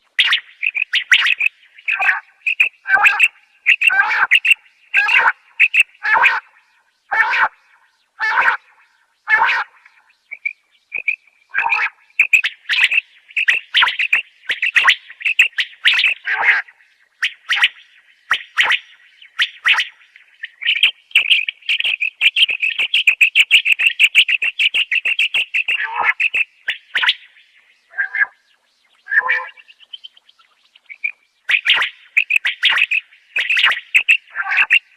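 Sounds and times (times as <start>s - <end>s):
quail calling: 0.1s - 34.9s.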